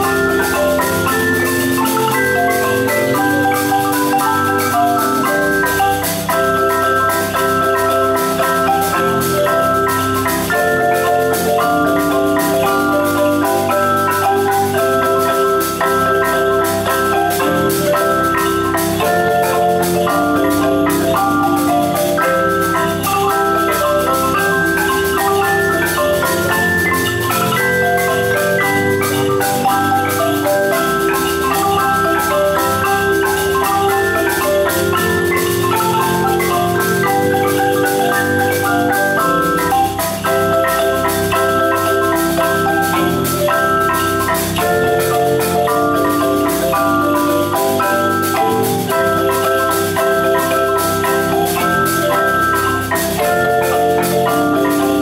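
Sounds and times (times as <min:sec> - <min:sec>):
marimba ensemble playing: 0:00.0 - 0:55.0.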